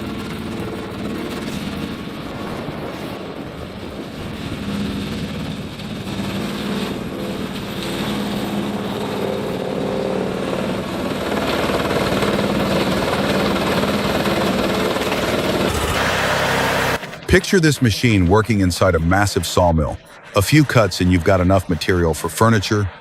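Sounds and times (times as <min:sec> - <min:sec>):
machine engine humming and grinding: 0:00.0 - 0:23.0.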